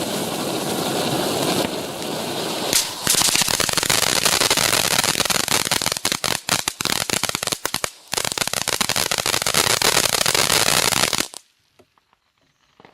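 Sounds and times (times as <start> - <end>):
firework fountain crackling: 0.0 - 12.2.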